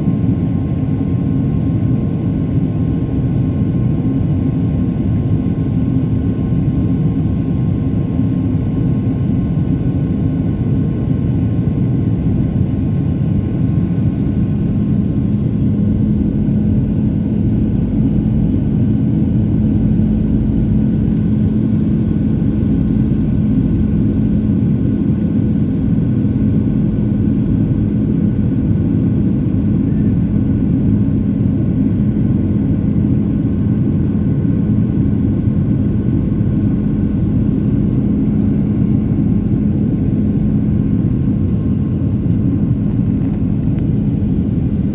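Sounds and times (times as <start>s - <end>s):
aircraft engine drone in cabin: 0.0s - 44.9s.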